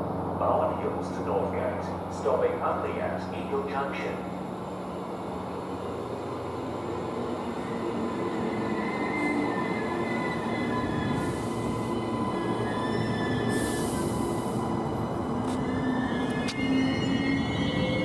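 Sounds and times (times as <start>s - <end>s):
electric train rail rumble: 0.0s - 18.0s.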